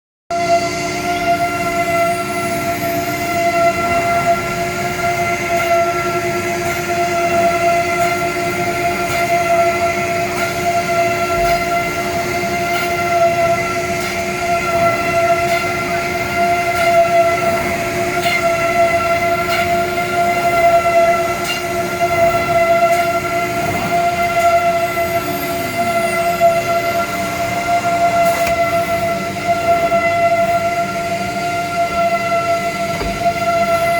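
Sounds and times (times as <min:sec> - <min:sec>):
router spindle whine: 0:00.3 - 0:33.9.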